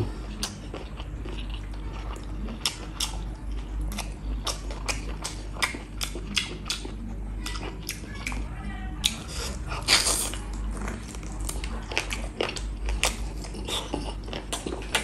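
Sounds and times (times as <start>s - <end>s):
wet chewing mouth clicks: 0.4s - 8.4s, 9.0s - 15.0s.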